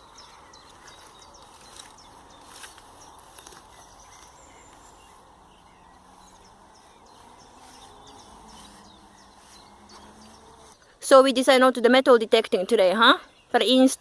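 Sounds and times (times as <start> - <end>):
faint songbirds chirping: 0.0 - 14.0.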